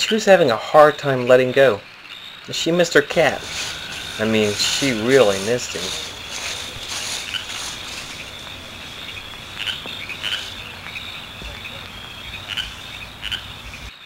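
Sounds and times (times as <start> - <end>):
crickets chirring: 0.5 - 14.0.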